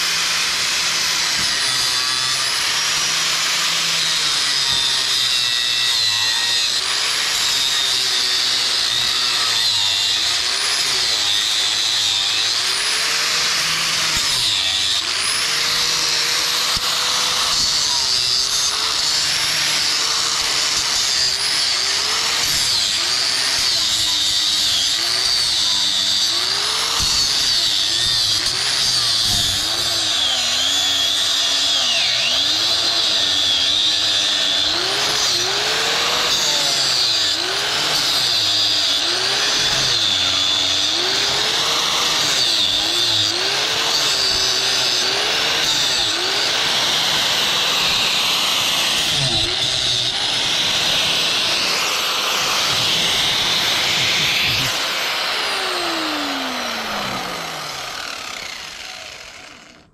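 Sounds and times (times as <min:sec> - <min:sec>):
angle grinder cutting metal: 0:00.0 - 0:59.9.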